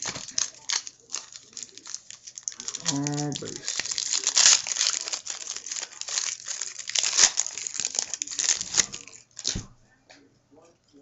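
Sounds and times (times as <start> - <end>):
wrapper crinkling and tearing: 0.0 - 9.6.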